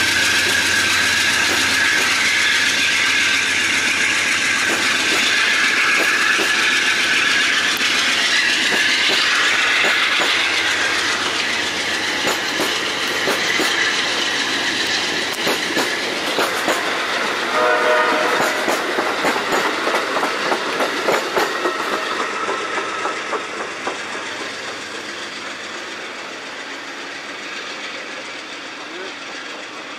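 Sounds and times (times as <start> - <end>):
clickety-clack over rail joints: 0.0 - 29.9
steel wheels rumbling on rail: 0.0 - 29.9.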